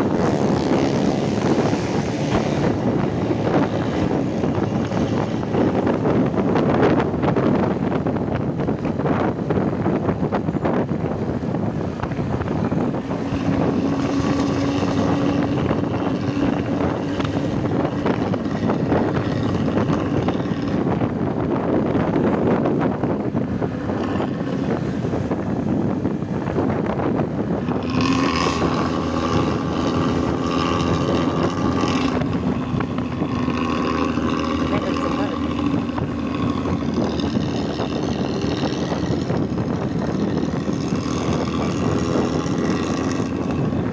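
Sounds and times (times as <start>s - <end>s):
bus engine growling: 0.0s - 43.9s.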